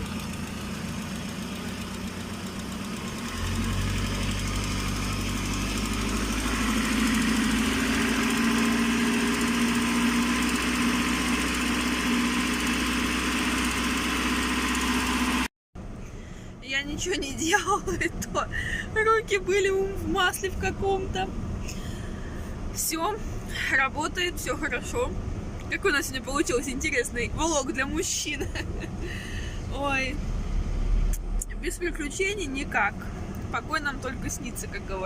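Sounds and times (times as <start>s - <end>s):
van engine idling: 0.0s - 35.0s.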